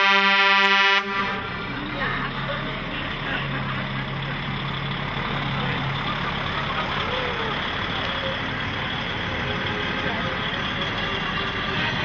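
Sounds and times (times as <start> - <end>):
truck diesel engine hum: 0.0 - 12.0
continuous noisy din: 0.8 - 12.0.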